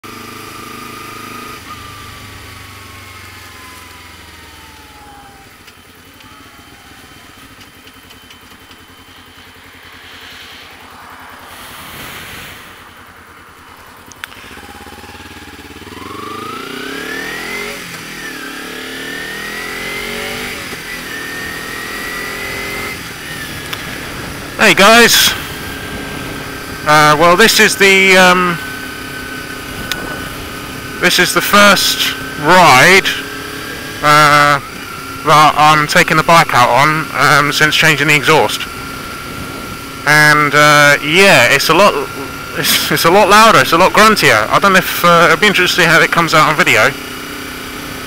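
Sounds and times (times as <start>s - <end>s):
motorcycle engine: 0.0s - 48.0s.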